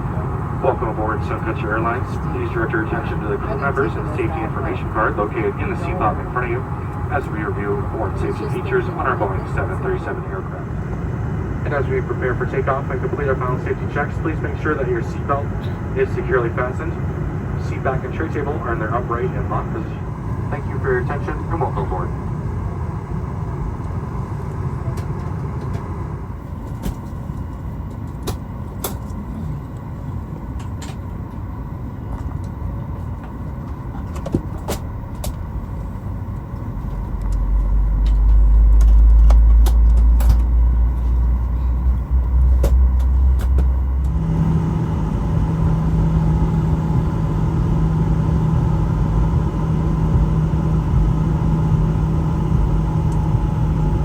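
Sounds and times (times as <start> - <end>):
airliner cabin rumble: 0.0 - 54.0
deep rumble: 0.0 - 54.0
steady droning hum: 0.0 - 54.0.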